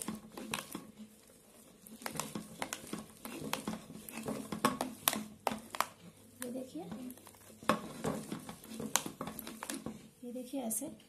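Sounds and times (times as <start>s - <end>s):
mash scraping on metal grater: 0.0s - 5.8s, 6.9s - 10.0s.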